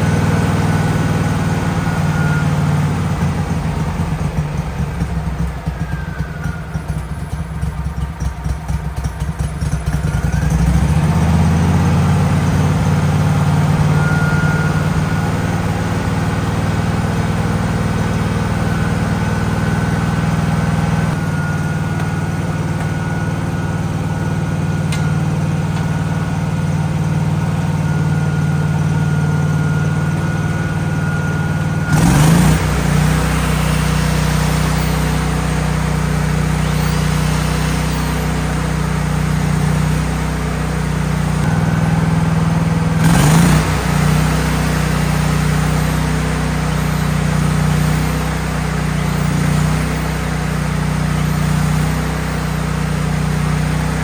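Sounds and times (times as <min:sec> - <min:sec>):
generator engine running: 0:00.0 - 0:54.0.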